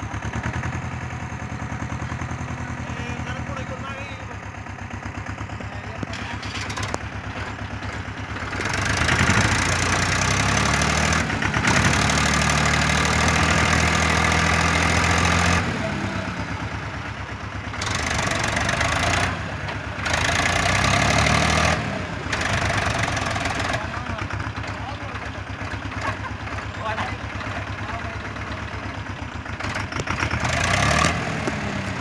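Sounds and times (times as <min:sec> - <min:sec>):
tractor engine revving hard: 0:00.0 - 0:04.3, 0:05.1 - 0:32.0.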